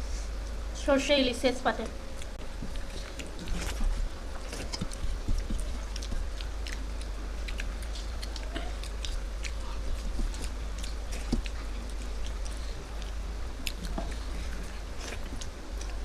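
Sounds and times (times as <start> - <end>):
steady low hum: 0.0 - 16.0
people chewing: 2.1 - 16.0.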